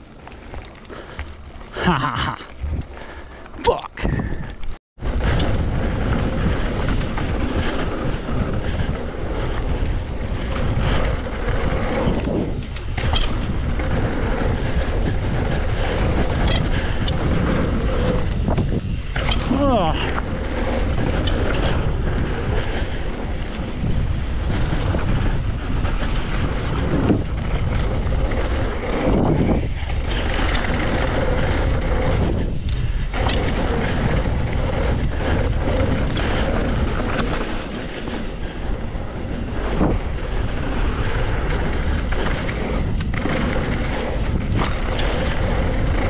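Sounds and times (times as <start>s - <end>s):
bike tyres on dirt trail: 0.0s - 46.0s
wind rush on microphone: 0.0s - 46.0s
bike knocks and rattles: 5.0s - 46.0s.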